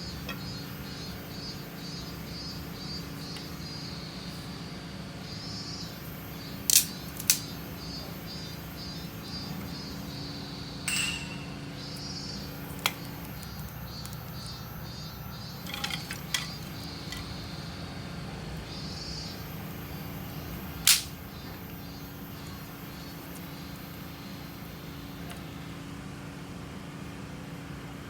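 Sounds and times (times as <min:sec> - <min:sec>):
truck engine droning: 0:00.0 - 0:28.0.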